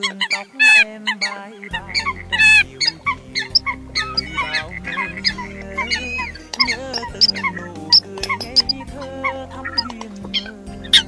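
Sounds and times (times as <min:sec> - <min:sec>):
coots calling: 0:00.0 - 0:10.6
background music: 0:00.0 - 0:11.0.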